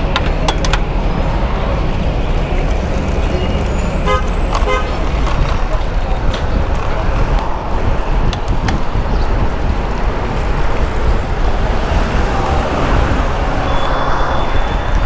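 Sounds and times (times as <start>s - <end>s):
city traffic noise: 0.0s - 15.0s
wind rushing over microphone: 0.0s - 15.0s.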